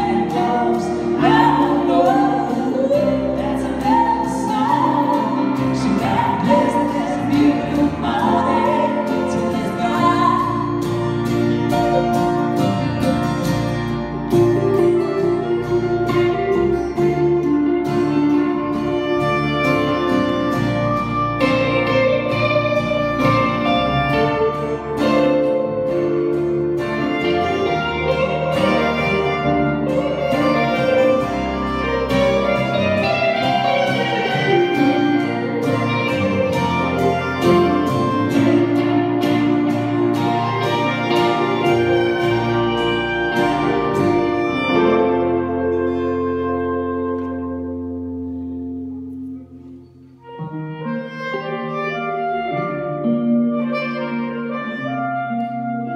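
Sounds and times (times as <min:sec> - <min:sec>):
clarinet melody: 0:00.0 - 0:55.9
electric bass: 0:00.0 - 0:55.9
electric guitars strumming: 0:00.0 - 0:55.9.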